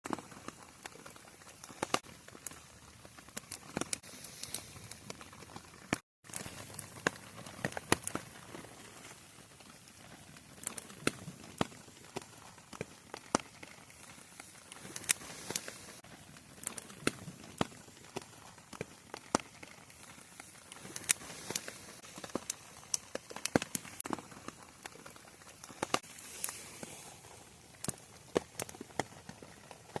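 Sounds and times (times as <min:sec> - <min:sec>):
wood fire crackling: 0:00.0 - 0:30.0
hiss of burning: 0:00.1 - 0:30.0.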